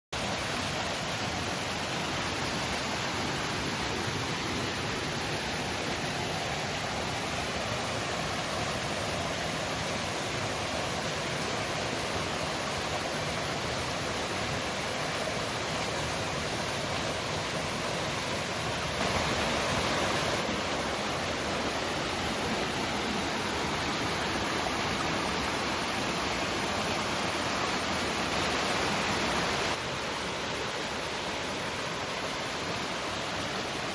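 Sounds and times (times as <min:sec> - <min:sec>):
stream flowing: 0:00.2 - 0:33.9.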